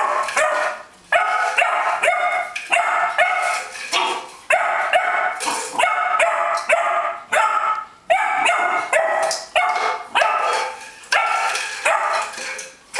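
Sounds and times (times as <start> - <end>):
dog barking sharply: 0.0 - 10.6.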